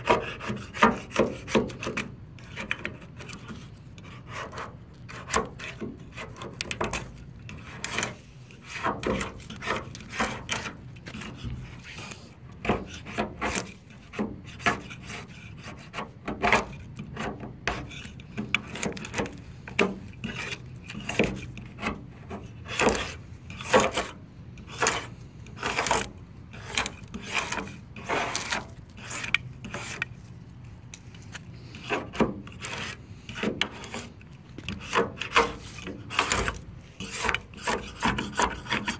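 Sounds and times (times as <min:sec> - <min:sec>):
razor blade scraping paint off metal: 0:00.0 - 0:38.9.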